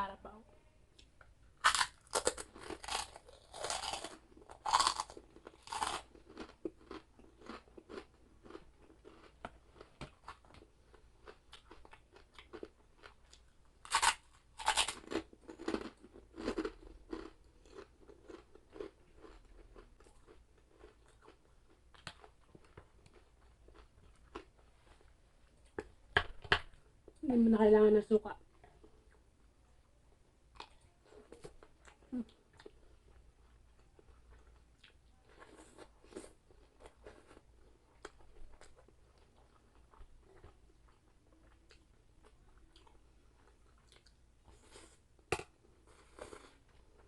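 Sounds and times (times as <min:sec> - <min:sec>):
crunching and chewing: 0:01.0 - 0:26.0, 0:30.5 - 0:47.0.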